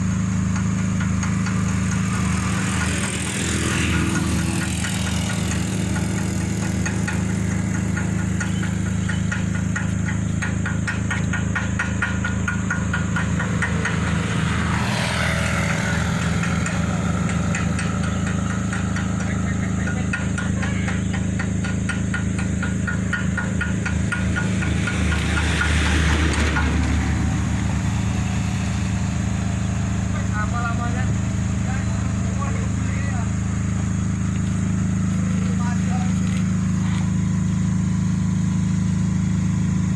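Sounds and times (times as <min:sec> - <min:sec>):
fine rapid ticking: 0:00.0 - 0:36.7
diesel engine humming: 0:00.0 - 0:39.9.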